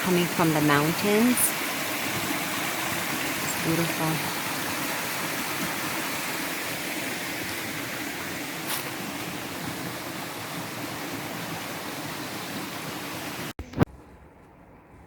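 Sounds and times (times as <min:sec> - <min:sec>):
spring water rushing: 0:00.0 - 0:13.5.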